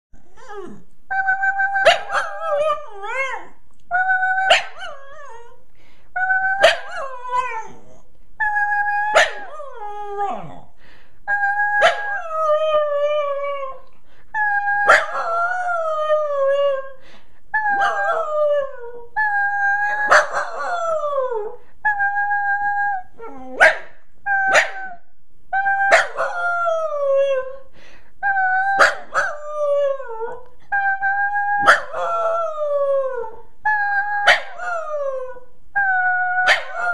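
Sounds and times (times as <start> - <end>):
small dog howling and yipping: 0.3 - 5.6, 6.2 - 10.6, 11.3 - 13.8, 14.4 - 16.8, 17.7 - 25.0, 25.6 - 27.6, 28.3 - 36.9.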